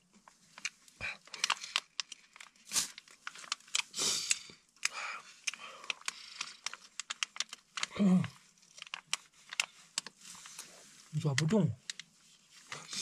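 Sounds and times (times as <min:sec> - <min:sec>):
plastic wrapper crinkling: 0:00.1 - 0:13.0.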